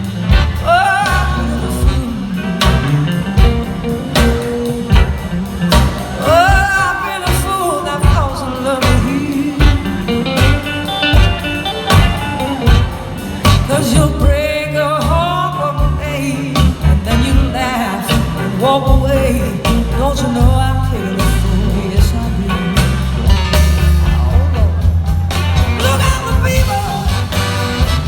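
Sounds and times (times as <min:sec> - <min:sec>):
bass: 0:00.0 - 0:28.0
drums: 0:00.0 - 0:28.0
electric guitar lead: 0:00.0 - 0:28.0.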